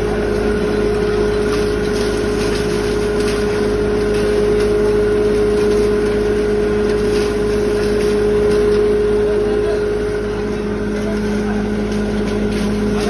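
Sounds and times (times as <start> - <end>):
grinding machine whine: 0.0 - 13.0
machine humming: 0.0 - 13.0.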